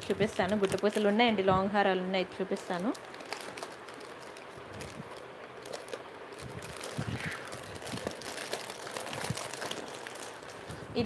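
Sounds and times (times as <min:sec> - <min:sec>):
plastic packets clicking and crinkling: 0:00.0 - 0:01.5, 0:02.5 - 0:10.8.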